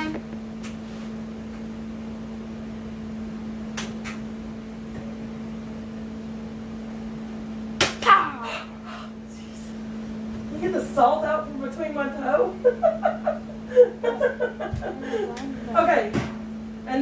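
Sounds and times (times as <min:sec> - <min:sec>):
steady low room hum: 0:00.0 - 0:17.0.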